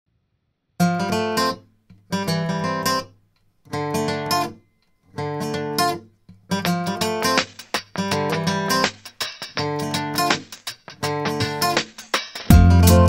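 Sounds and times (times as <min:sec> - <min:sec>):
acoustic guitar strumming: 0:00.8 - 0:03.1, 0:03.7 - 0:13.0.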